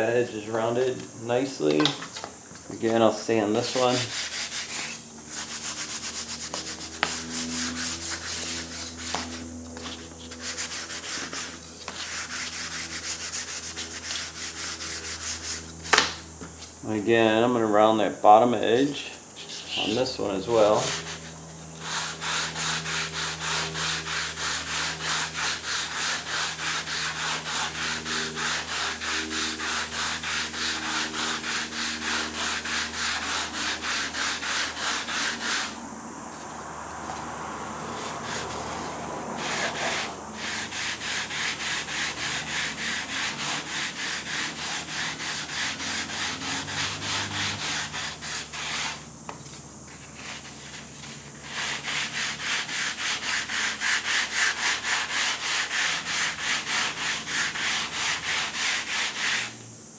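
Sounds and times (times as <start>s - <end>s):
sandpaper rubbing back and forth: 2.8s - 16.8s, 18.8s - 59.6s.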